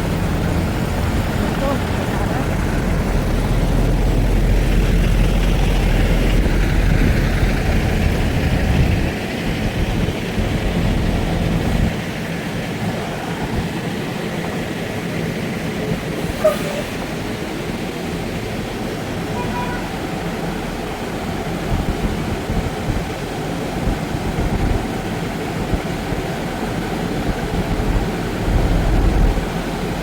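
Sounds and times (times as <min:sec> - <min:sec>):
truck engine and road noise: 0:00.0 - 0:30.0.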